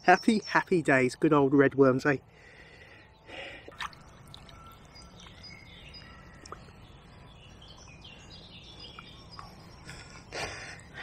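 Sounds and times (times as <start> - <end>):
low steady background noise: 0.0 - 11.0
songbirds chirping: 0.0 - 11.0.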